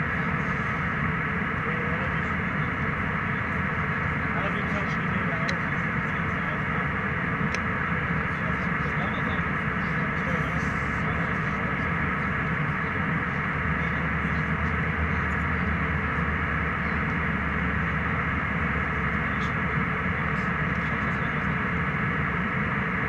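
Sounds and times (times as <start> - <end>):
jet airliner cabin engine noise: 0.0 - 23.0.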